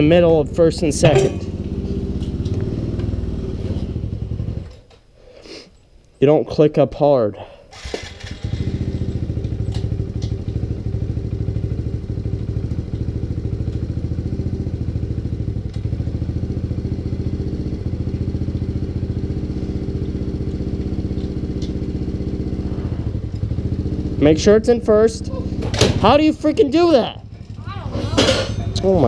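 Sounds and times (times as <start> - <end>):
dirt bike engine idling: 0.0 - 4.7, 7.8 - 29.0.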